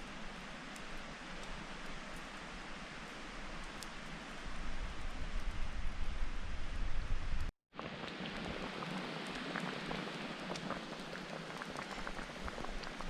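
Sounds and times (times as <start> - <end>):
campfire crackling and popping: 0.1 - 6.8, 7.4 - 13.0.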